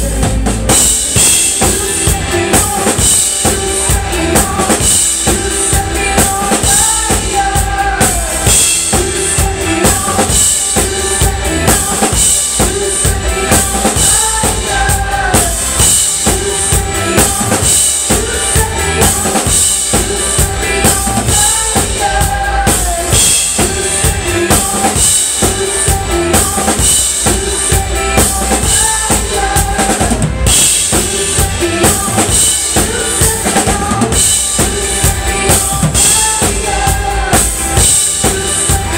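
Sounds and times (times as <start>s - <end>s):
drum kit steady beat: 0.0s - 38.9s
live band playing pop-rock: 0.0s - 38.9s.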